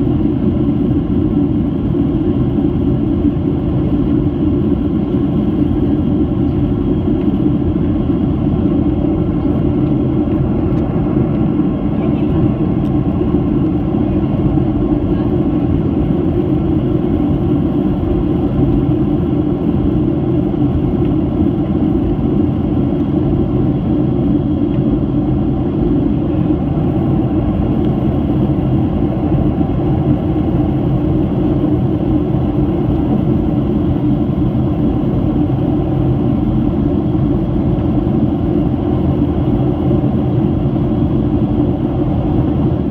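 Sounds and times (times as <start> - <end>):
airflow past the fuselage: 0.0 - 42.9
airplane cabin engine roar: 0.0 - 42.9.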